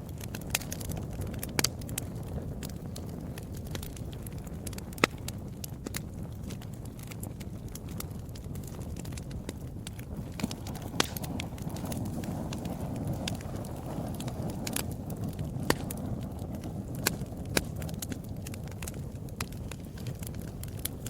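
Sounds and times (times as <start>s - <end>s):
loud fire pops: 0.0s - 21.0s
wood fire crackling: 0.0s - 21.0s.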